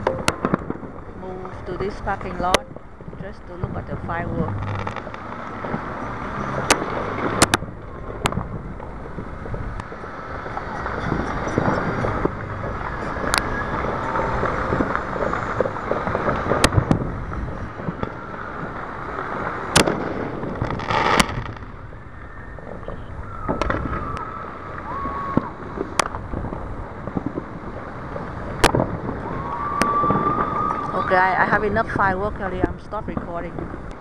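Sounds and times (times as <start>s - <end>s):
background rumble: 0.0s - 34.0s
distant fireworks bangs: 0.0s - 34.0s
fireworks crackling: 0.0s - 34.0s.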